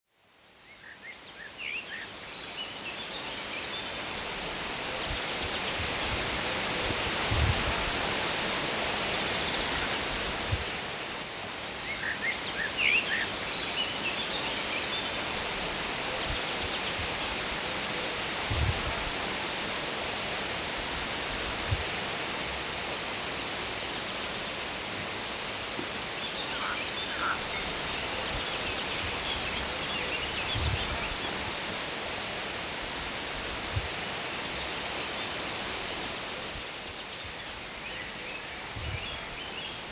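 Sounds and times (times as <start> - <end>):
steady rushing hiss: 3.4 - 39.9.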